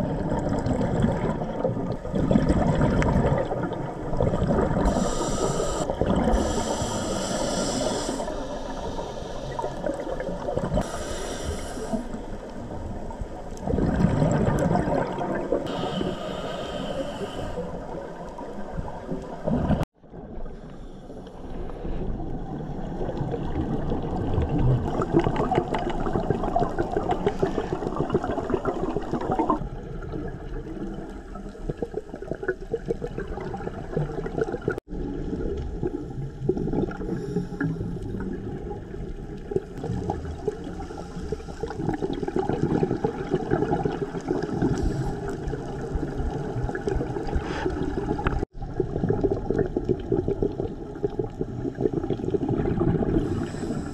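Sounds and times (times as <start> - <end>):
underwater gurgling and bubbles: 0.0 - 53.9.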